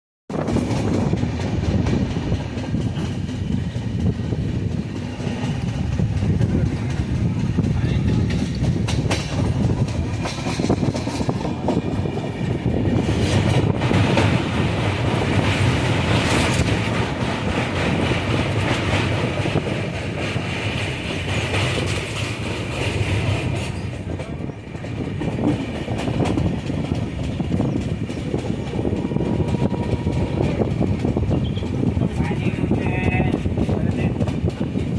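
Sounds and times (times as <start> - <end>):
train wheels rumbling on track: 0.3 - 34.9.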